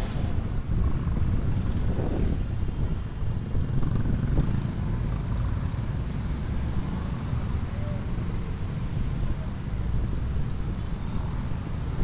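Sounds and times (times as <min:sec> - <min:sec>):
road and wind noise: 0:00.0 - 0:12.0
traffic of motorbikes and cars: 0:00.0 - 0:12.0.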